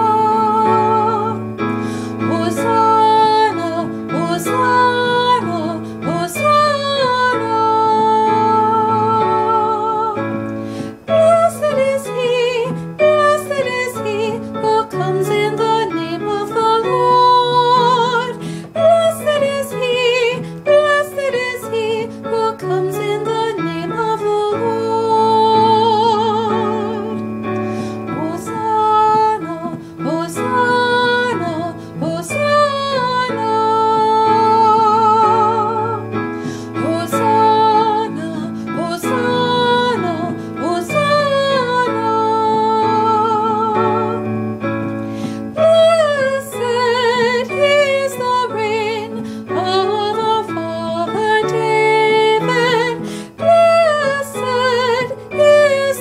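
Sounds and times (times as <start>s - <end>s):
woman singing with vibrato: 0.0s - 44.6s, 45.3s - 56.0s
sustained keyboard chords: 0.0s - 56.0s.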